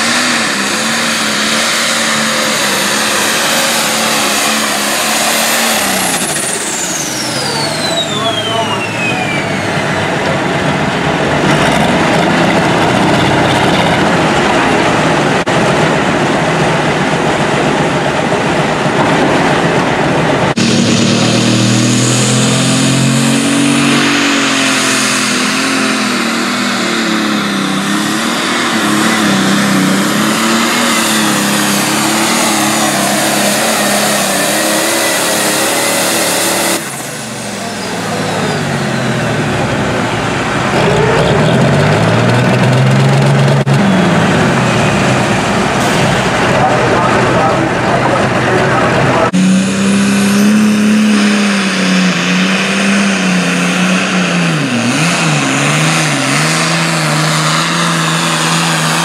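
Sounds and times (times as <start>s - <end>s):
diesel tractor engine at full throttle: 0.0s - 59.0s.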